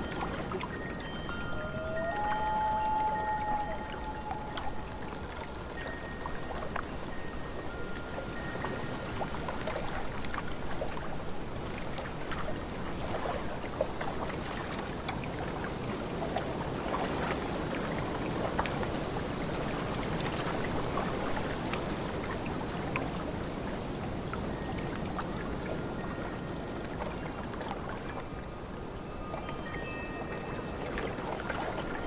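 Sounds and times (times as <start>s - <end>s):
steady wind: 0.0s - 32.0s
waves lapping and splashing: 0.0s - 32.0s.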